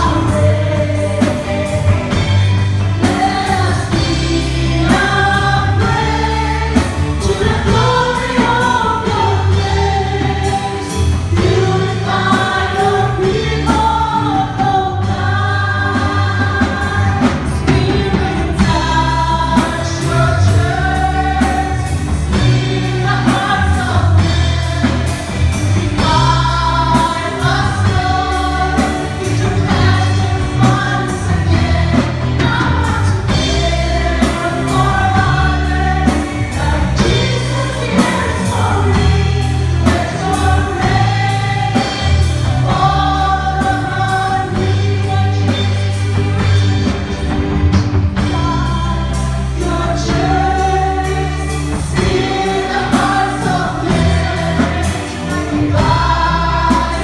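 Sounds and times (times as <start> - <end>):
band with drum beat and bass: 0.0 - 57.0
worship team singing: 0.0 - 57.0.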